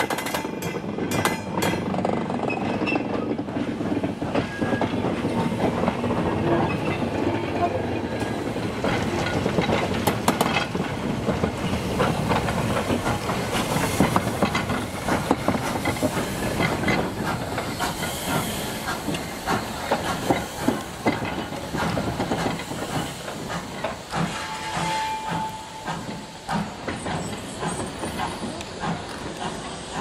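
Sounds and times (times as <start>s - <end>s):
steam locomotive moving slowly: 0.0s - 30.0s
wheels clanking on track: 0.0s - 30.0s
steam hissing: 3.3s - 30.0s.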